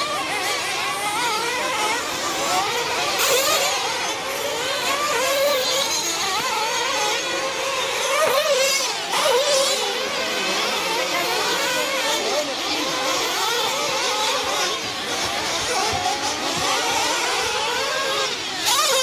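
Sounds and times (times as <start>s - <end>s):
rc car engines whining: 0.0s - 19.0s.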